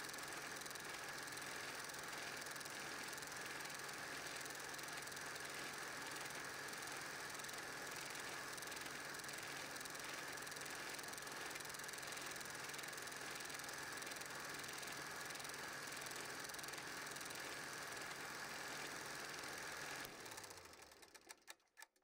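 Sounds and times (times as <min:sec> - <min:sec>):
projector winding down: 0:00.0 - 0:21.7
film projector whirring: 0:00.0 - 0:21.9.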